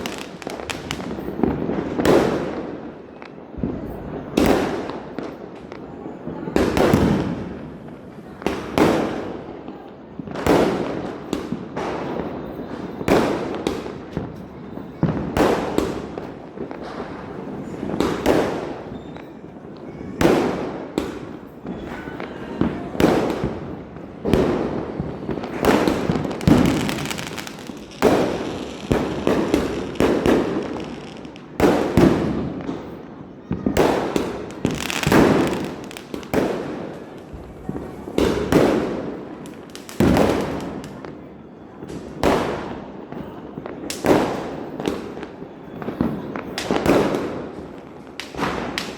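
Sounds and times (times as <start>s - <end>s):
firecrackers bursting: 0.0s - 48.9s.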